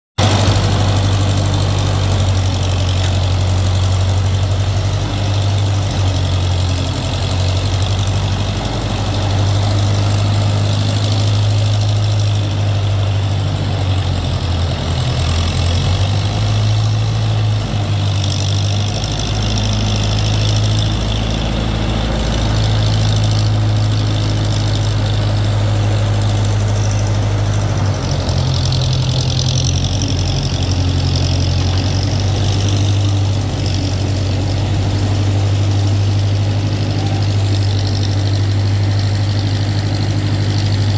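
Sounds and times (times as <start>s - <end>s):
backhoe engine idling: 0.2s - 40.9s.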